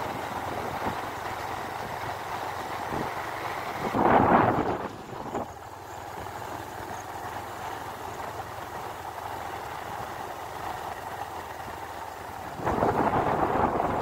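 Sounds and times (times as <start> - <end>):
vehicle driving on road: 0.0 - 14.0.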